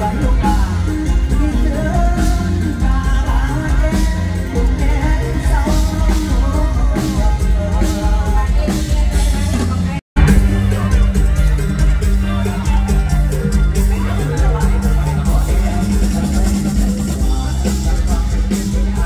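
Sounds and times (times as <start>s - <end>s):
heavy bass and drum beat: 0.0s - 19.0s.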